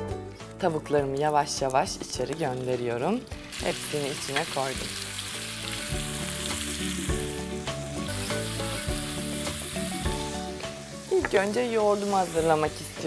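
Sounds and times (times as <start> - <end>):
chicken sizzling in a frying pan: 1.4 - 13.0.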